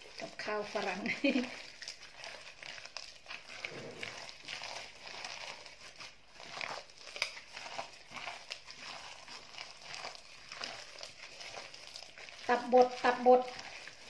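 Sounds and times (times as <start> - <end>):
squelching of kneaded mixture: 0.0 - 14.0.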